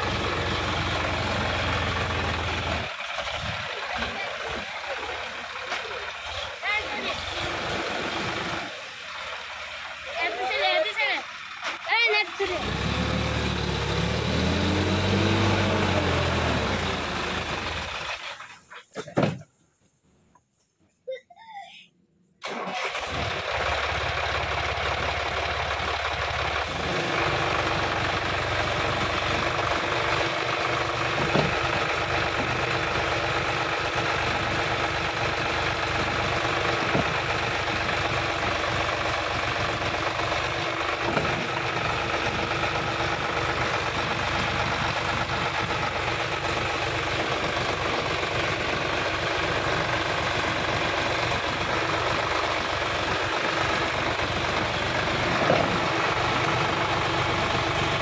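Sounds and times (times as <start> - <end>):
tractor diesel engine under load: 0.0 - 19.4, 22.4 - 58.0.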